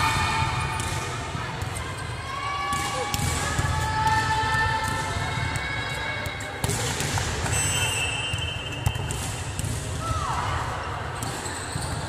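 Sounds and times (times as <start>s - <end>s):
volleyball hits echoing: 0.0s - 12.0s.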